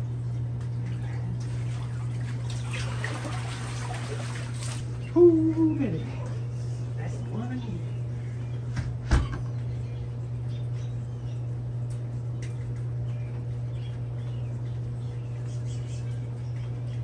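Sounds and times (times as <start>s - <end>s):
water pump humming: 0.0s - 17.0s.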